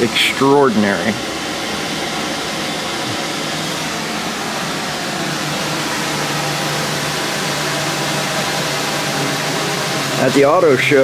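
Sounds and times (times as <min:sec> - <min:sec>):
air-handling equipment hiss and hum: 0:00.0 - 0:11.0.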